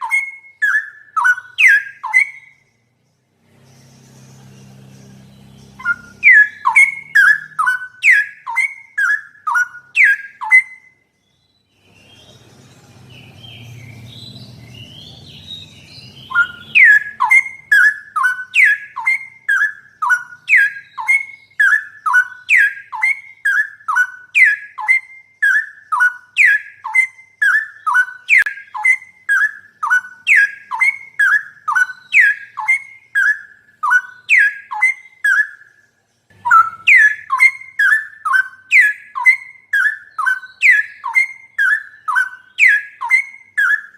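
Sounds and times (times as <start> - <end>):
bird whistling falling notes: 3.7 - 10.8, 11.9 - 35.6, 36.4 - 43.9.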